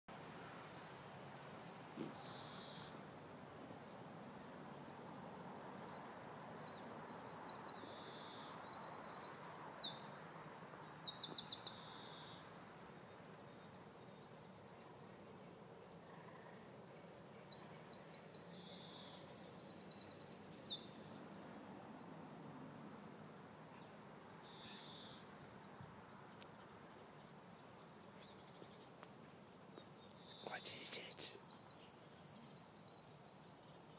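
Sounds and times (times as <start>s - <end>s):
faint background hiss: 0.1s - 33.9s
small birds chirping and trilling: 0.2s - 33.9s.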